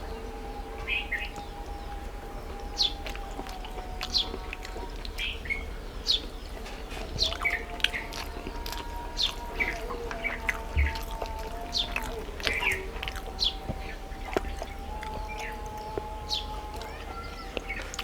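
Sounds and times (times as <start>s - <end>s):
small birds chirping: 0.0s - 18.0s
steady background hum: 0.0s - 18.0s.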